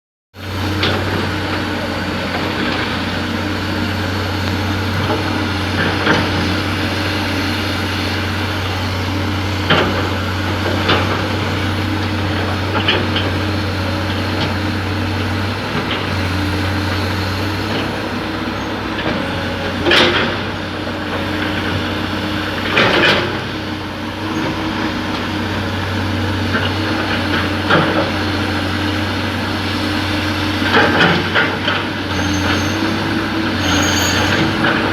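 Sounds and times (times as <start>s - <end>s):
excavator engine running: 0.4s - 34.9s.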